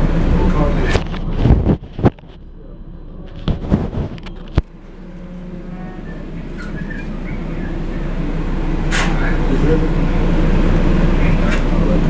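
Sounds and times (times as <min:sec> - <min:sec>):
train motor and rolling noise: 0:00.0 - 0:12.0.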